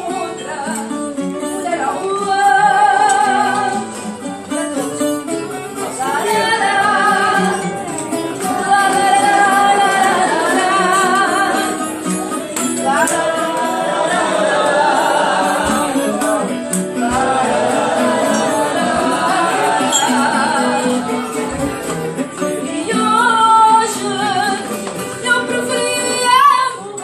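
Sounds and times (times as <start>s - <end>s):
woman singing with vibrato: 0.0s - 3.9s, 5.9s - 7.8s, 8.4s - 12.1s, 12.7s - 21.6s, 22.4s - 27.0s
guitars playing: 0.0s - 27.0s.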